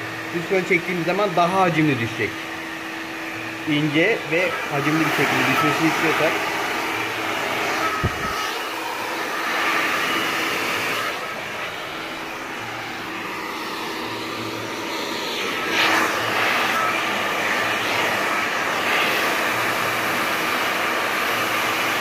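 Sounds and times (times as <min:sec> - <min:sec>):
hair dryer whining: 0:00.0 - 0:22.0.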